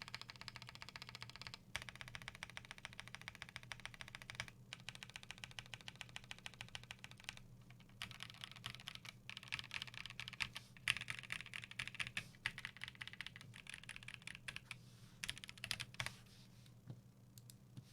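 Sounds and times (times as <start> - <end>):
mechanical keyboard typing: 0.0 - 16.1.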